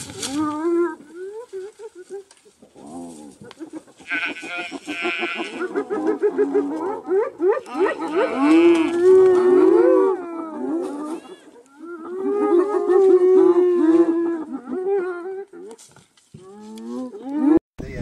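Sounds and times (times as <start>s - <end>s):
animals wavering calls: 0.2s - 17.6s.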